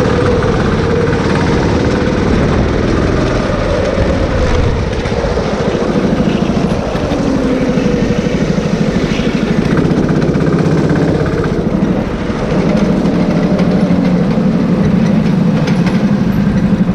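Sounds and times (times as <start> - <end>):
go-kart engine running: 0.0 - 16.9.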